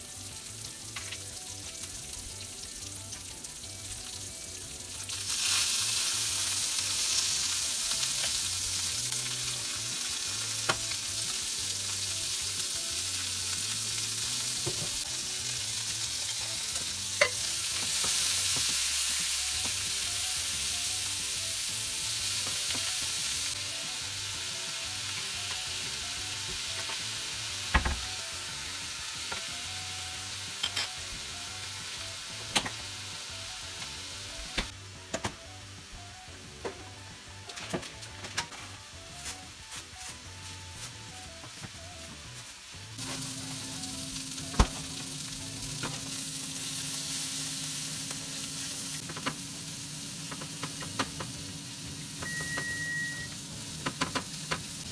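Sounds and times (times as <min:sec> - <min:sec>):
food sizzling in a frying pan: 0:00.0 - 0:35.2, 0:35.8 - 0:54.9.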